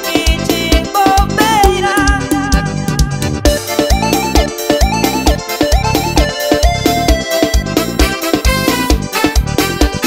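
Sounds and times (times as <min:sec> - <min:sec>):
bass: 0:00.0 - 0:10.0
keyboard lead melody: 0:00.0 - 0:10.0
drum beat: 0:01.0 - 0:10.0.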